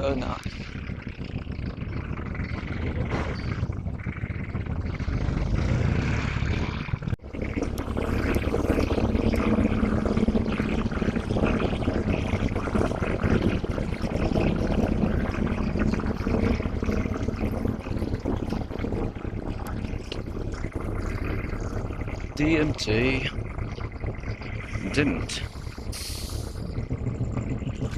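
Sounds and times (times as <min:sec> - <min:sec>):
loud rumbling noise: 0:00.0 - 0:27.9.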